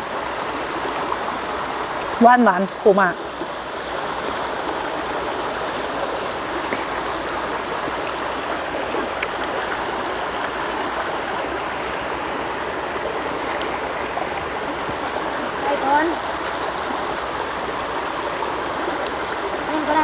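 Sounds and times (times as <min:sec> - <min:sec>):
flowing water: 0:00.0 - 0:20.0.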